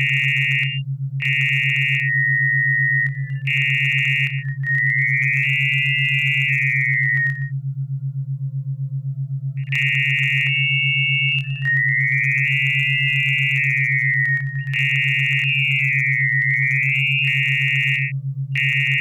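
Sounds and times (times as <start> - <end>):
harsh high gliding tone: 0.0 - 7.5, 9.6 - 19.0
pulsing low electronic hum: 0.0 - 19.0.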